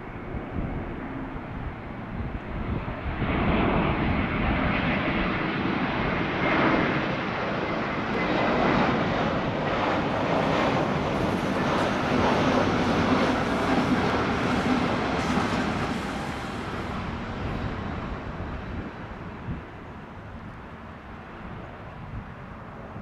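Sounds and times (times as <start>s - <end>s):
jet airliner engines roaring: 0.0s - 23.0s.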